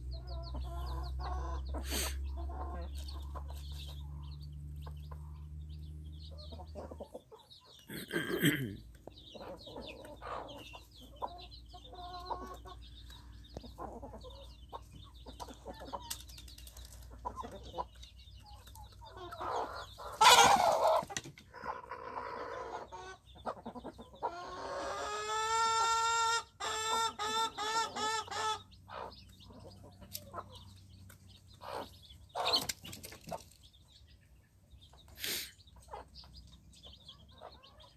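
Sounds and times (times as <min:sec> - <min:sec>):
chicks peeping: 0:00.0 - 0:37.9
hens clucking: 0:00.0 - 0:37.9.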